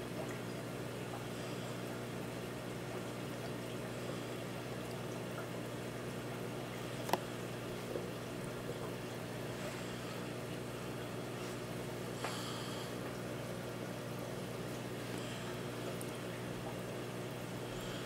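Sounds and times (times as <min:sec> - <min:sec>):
aquarium pump humming: 0:00.0 - 0:18.0
faint trickle of water: 0:00.0 - 0:18.0.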